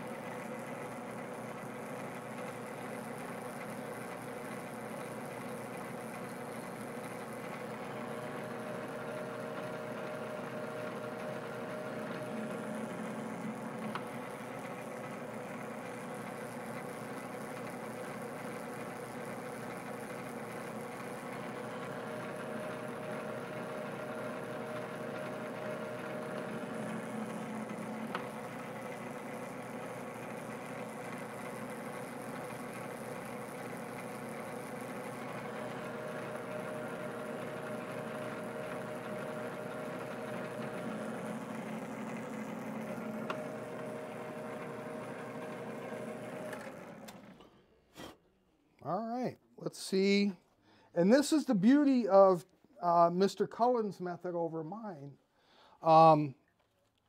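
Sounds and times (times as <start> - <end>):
metal lathe humming: 0.0 - 48.2.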